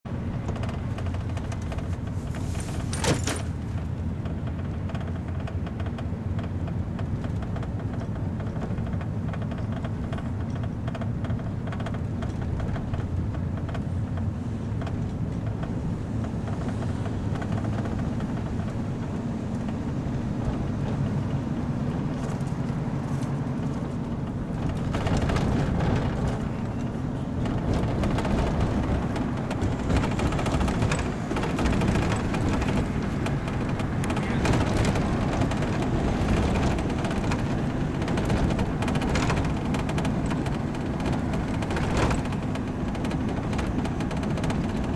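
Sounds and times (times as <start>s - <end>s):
road noise inside cabin: 0.0s - 44.9s
van engine rumble: 0.0s - 44.9s.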